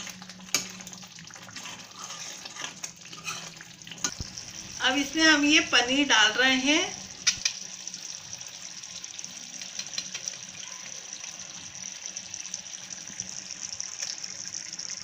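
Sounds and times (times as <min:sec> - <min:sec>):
gravy simmering in a pan: 0:00.0 - 0:15.0.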